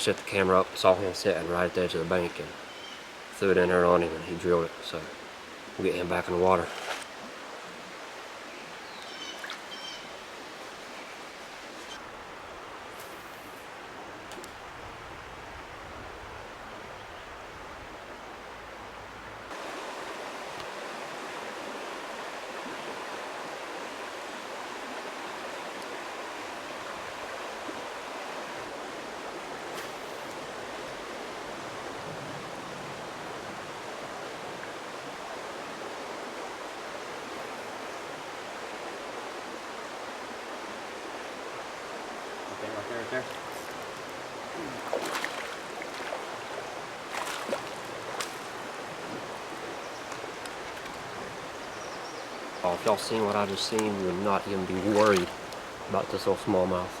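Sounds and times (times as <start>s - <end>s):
creek water rushing over shoals: 0.0s - 57.0s.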